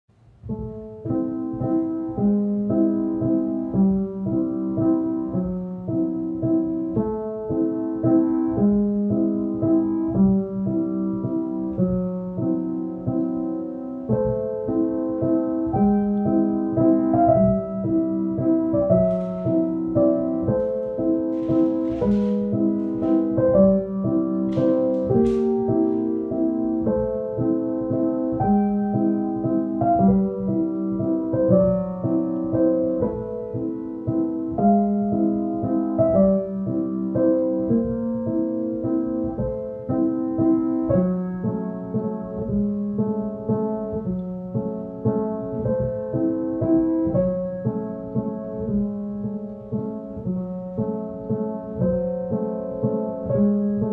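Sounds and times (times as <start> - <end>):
piano music: 0.1 - 53.9.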